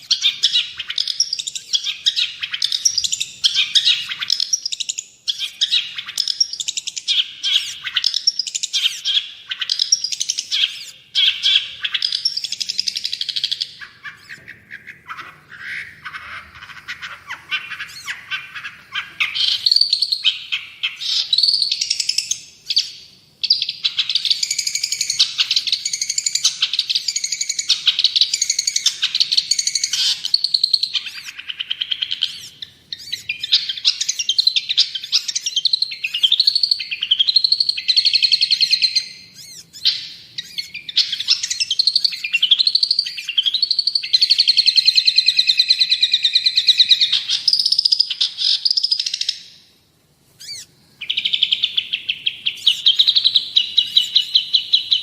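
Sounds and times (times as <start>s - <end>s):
bird singing scratchy chattering song: 0.0s - 49.6s, 50.4s - 55.0s.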